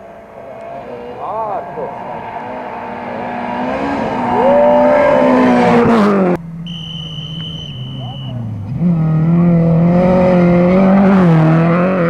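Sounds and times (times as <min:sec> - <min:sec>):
rally car engine revving hard: 0:00.0 - 0:06.4, 0:08.4 - 0:12.0
low engine note with high tone: 0:00.0 - 0:12.0.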